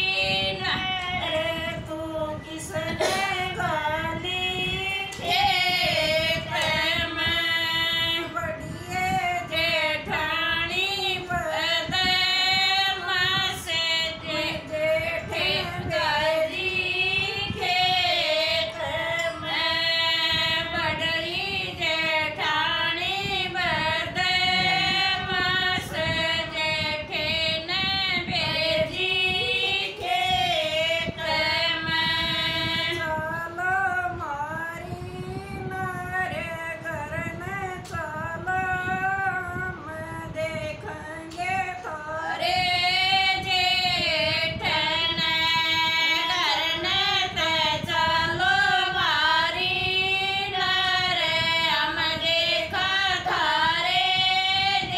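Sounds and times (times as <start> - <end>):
women singing unaccompanied: 0.0 - 54.9.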